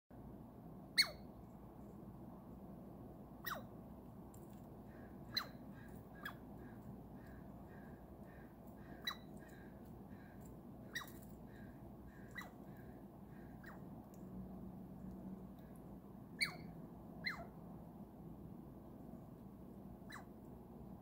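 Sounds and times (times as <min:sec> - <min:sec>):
faint steady background noise: 0:00.1 - 0:21.0.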